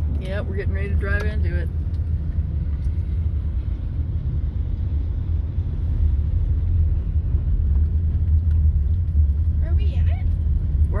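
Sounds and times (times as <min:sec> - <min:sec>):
vehicle engine and tyre noise: 0:00.0 - 0:11.0.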